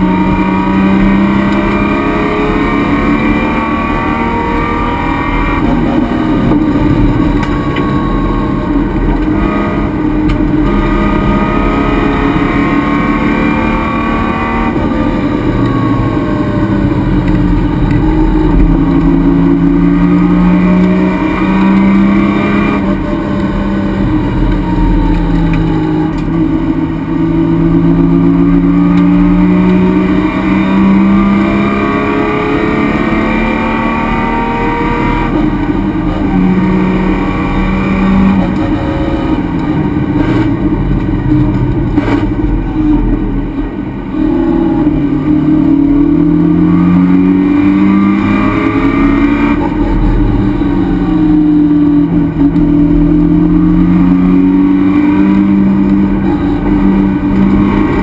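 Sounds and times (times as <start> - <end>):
race car engine under load: 0.0 - 58.0.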